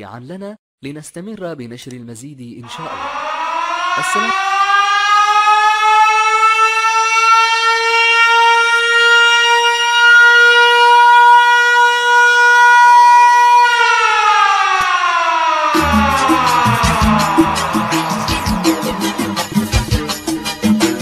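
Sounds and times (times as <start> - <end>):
siren-like note: 2.6 - 21.0.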